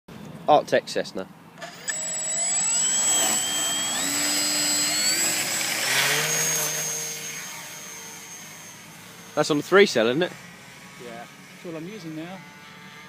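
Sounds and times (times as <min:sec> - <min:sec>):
model plane motor whining: 0:01.6 - 0:13.0.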